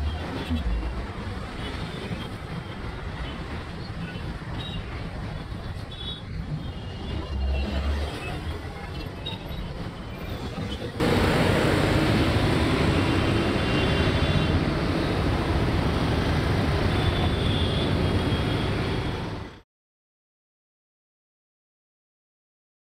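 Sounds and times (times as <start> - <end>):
road traffic rumble: 0.0 - 19.6.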